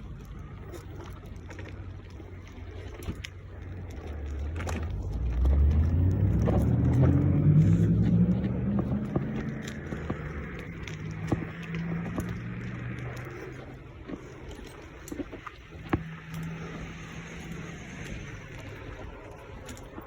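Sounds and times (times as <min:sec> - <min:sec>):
vehicle engine passing by: 0:03.8 - 0:20.0.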